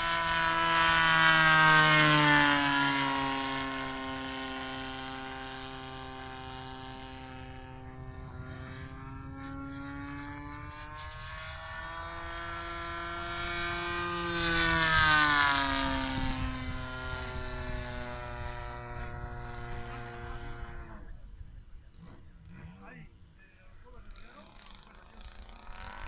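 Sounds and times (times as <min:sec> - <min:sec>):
model airplane engine droning: 0:00.0 - 0:26.0.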